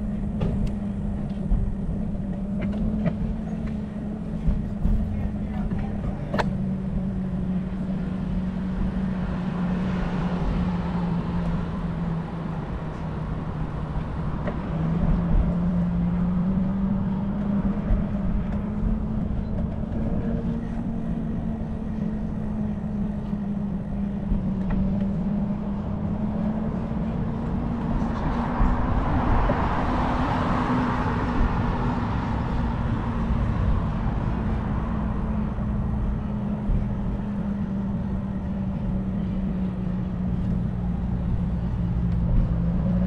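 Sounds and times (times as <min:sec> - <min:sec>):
low rumble: 0:00.0 - 0:43.0.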